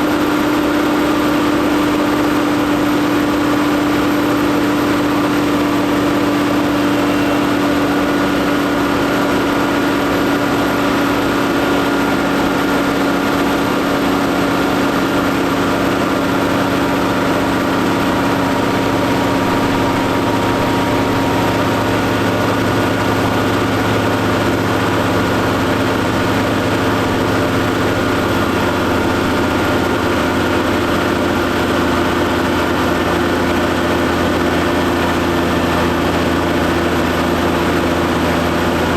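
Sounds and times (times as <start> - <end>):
tractor engine at high revs: 0.0 - 38.9.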